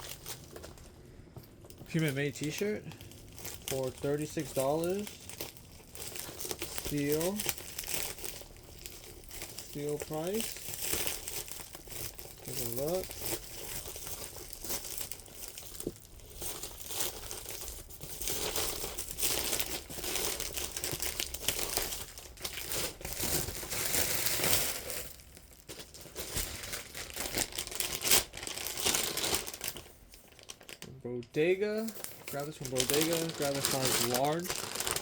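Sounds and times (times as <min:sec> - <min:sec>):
packaging crinkling: 0:00.0 - 0:30.9, 0:31.5 - 0:35.0
packaging tearing: 0:01.9 - 0:30.9, 0:31.8 - 0:35.0.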